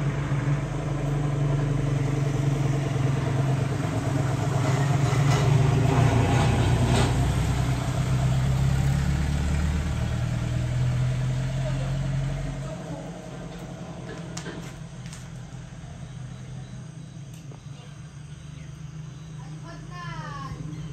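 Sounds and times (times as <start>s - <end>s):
motor engine running at low revs: 0.0s - 19.5s.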